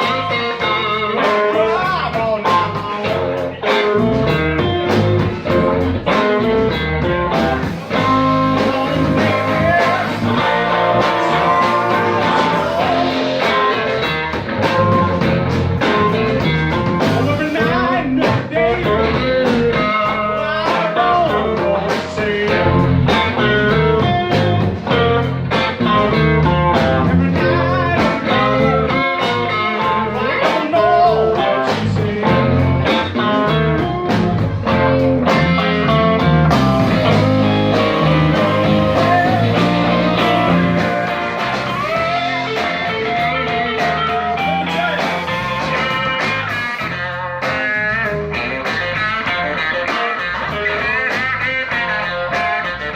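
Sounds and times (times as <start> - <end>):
guitar: 0.0 - 52.9
live blues band playing: 0.0 - 52.9
steady drum beat: 0.0 - 52.9.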